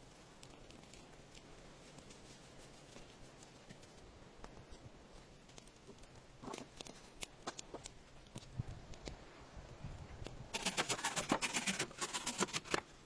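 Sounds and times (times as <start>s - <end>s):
rustling: 0.0s - 9.2s, 10.5s - 13.0s.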